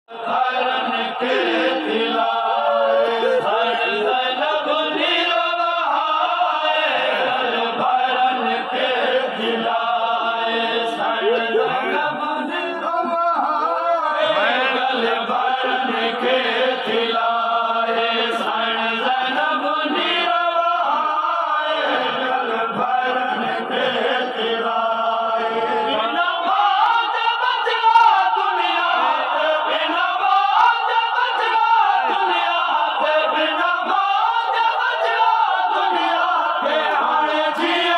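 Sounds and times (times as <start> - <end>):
group of men chanting: 0.1 - 37.9.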